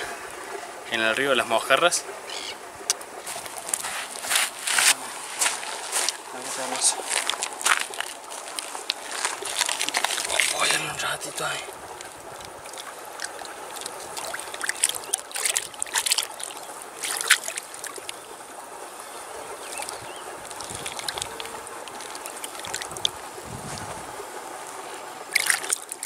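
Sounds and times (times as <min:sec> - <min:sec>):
river water running: 0:00.0 - 0:26.0
sharp water splashes: 0:02.8 - 0:18.8, 0:19.5 - 0:23.9, 0:25.2 - 0:26.0.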